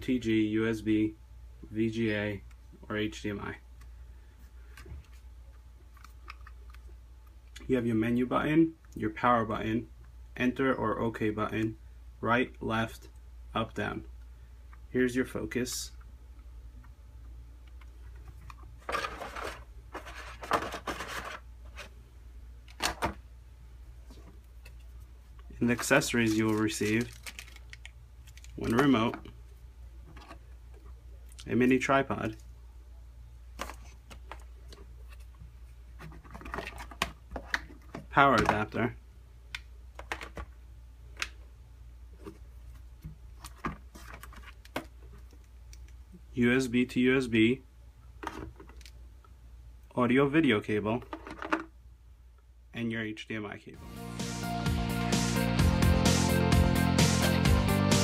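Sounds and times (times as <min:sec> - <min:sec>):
faint low hum: 0:00.0 - 0:53.9.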